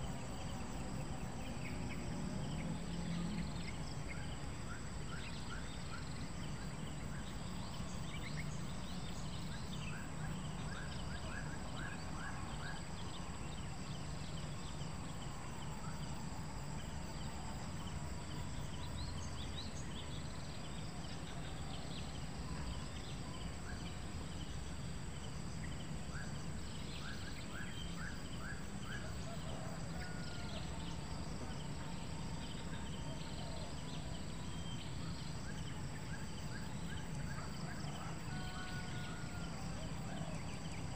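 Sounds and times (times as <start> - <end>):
high insect drone: 0.0 - 40.9.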